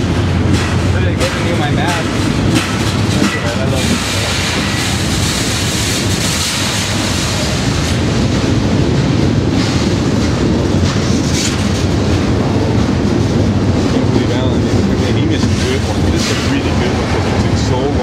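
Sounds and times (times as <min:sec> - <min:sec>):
freight train rumbling in tunnel: 0:00.0 - 0:18.0
train wheels clickety-clack: 0:00.0 - 0:18.0.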